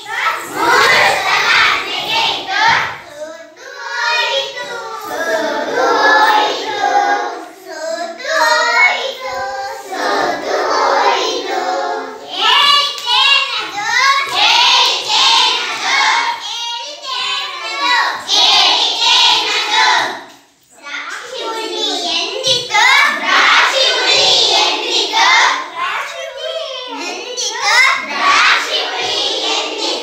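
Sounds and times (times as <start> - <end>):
young children singing in chorus: 0.0 - 30.0.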